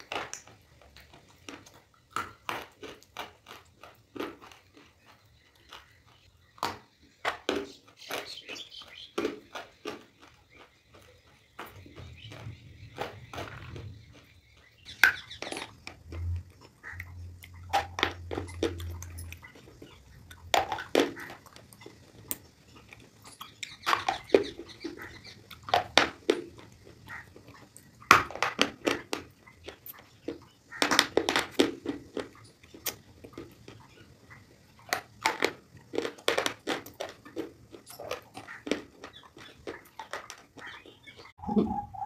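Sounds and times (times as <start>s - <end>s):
soft chewing: 0.0s - 41.8s
sharp crisp crunches: 0.0s - 42.0s.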